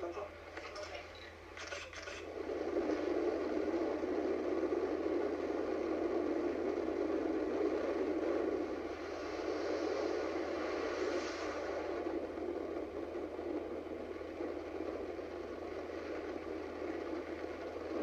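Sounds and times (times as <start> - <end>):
aircraft engine noise: 0.0 - 18.0
wind rushing: 2.3 - 18.0.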